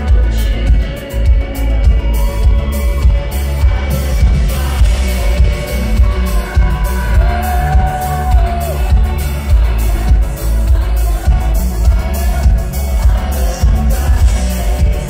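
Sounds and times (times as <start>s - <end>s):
drum beat: 0.0s - 15.0s
heavy bass: 0.0s - 15.0s
live indie pop band: 0.0s - 15.0s.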